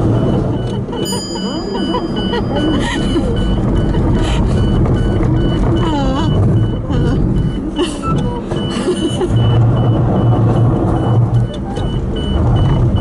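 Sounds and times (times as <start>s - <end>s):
reverse warning beeps: 0.0s - 13.0s
truck engine under load: 0.0s - 13.0s.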